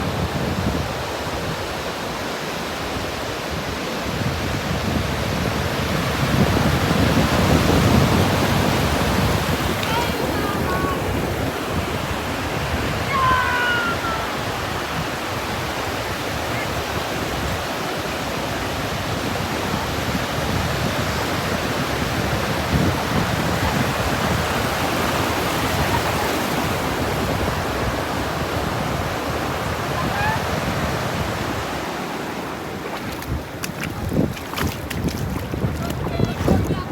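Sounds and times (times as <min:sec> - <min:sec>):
ocean surf on a beach: 0:00.0 - 0:36.9.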